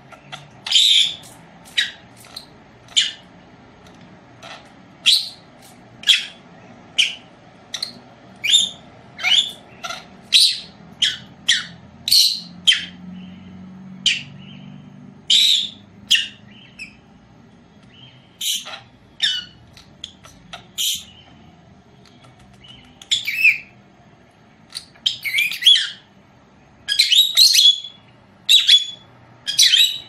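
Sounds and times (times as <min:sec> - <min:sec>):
parrot chirping: 0:00.0 - 0:17.2, 0:17.8 - 0:21.4, 0:22.1 - 0:23.8, 0:24.6 - 0:26.2, 0:26.8 - 0:30.0.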